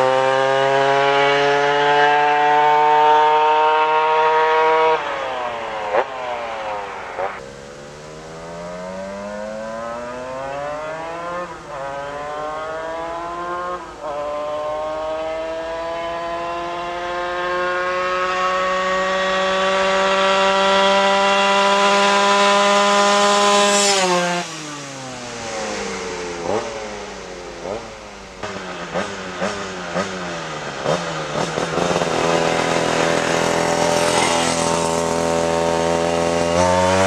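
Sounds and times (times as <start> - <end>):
small motorbike engine accelerating: 0.0 - 37.0.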